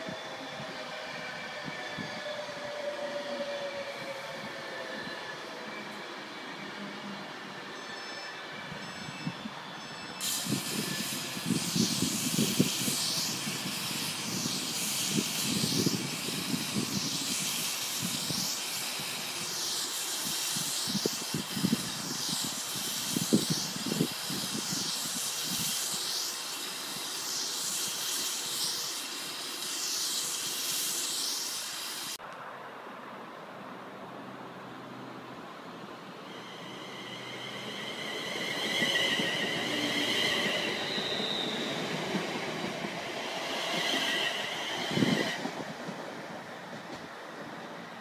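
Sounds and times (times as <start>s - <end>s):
train air hiss: 0.0s - 32.2s, 34.2s - 48.0s.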